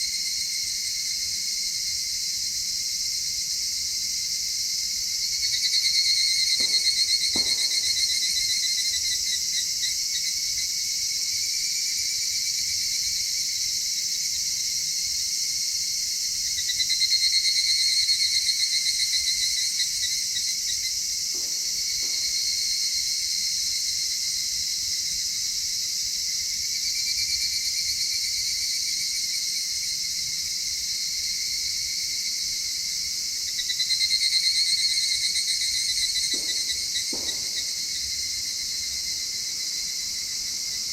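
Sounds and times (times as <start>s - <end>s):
insects chirping in pulsed trills: 0.0s - 40.9s.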